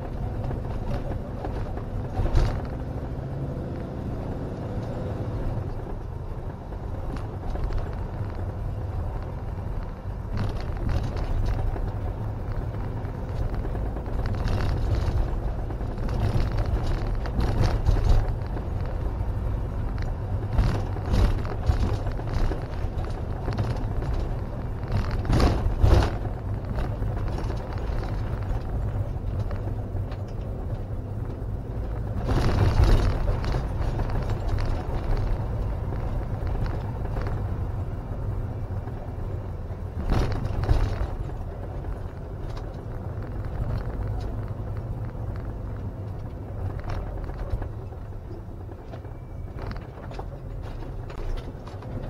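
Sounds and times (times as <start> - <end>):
rattling noise: 0.0 - 3.0, 4.8 - 52.0
vehicle engine and road rumble: 0.0 - 52.0.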